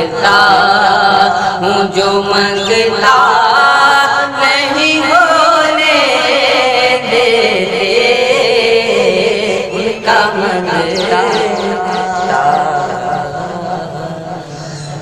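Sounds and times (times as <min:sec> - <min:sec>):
young men singing: 0:00.0 - 0:15.0.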